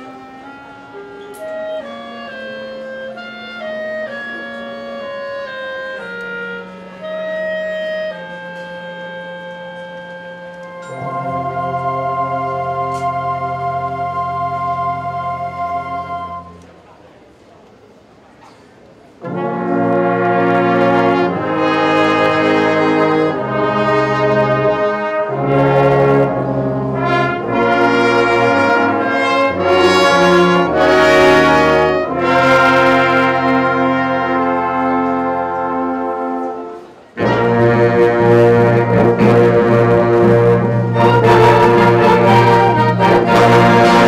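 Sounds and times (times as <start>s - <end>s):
wind band playing brass chords: 0.0s - 16.8s, 19.1s - 44.0s.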